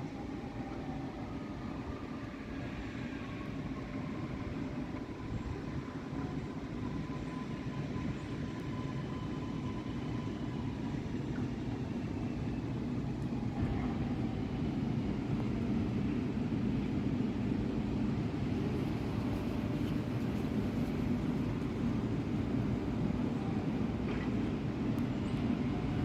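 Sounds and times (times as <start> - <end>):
faint whine gliding down: 0.0 - 26.0
train rumbling on tracks: 0.0 - 26.0.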